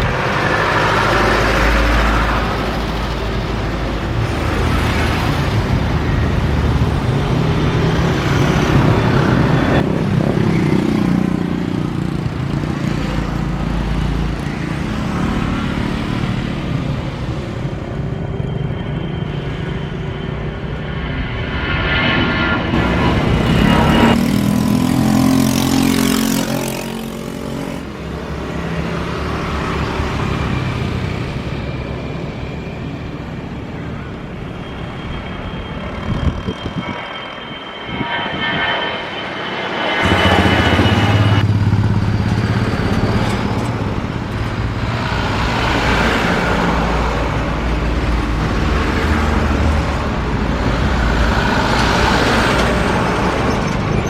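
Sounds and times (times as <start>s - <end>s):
deep drone: 0.0s - 54.0s
passing vehicle engines: 0.0s - 54.0s.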